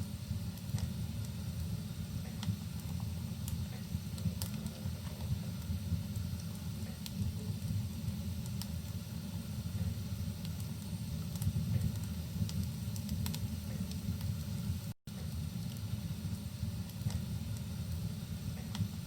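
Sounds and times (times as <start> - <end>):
burning wood crackling: 0.0 - 19.0
fire low rumble: 0.0 - 19.0
soft hiss of rain: 0.0 - 19.0.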